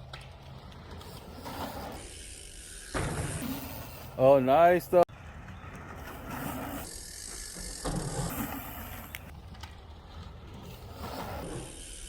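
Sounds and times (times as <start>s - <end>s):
bike tyres on muddy trail: 0.0s - 12.0s.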